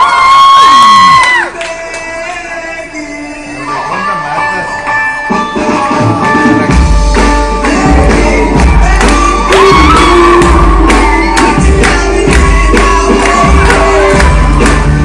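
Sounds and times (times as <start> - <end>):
dance song with singer: 0.0 - 15.0.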